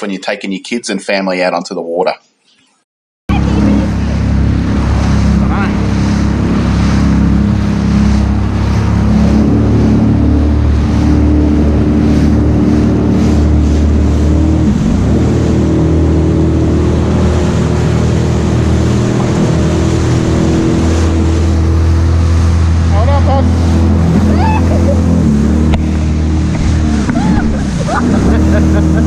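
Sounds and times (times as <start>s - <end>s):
jet ski engine running: 3.3s - 29.0s
water splashing against hull: 3.3s - 29.0s.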